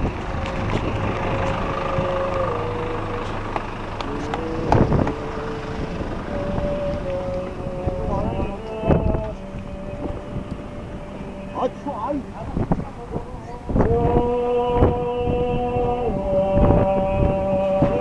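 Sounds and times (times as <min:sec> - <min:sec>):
large vehicle engines idling: 0:00.0 - 0:18.0.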